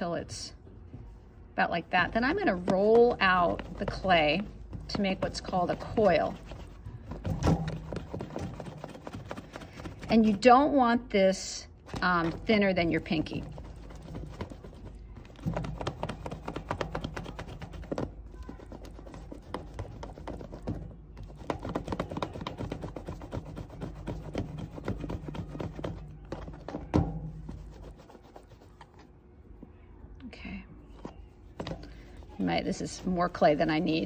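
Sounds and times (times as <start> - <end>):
hands rolling clay on mat: 1.0 - 10.8, 11.8 - 29.2, 30.8 - 34.0.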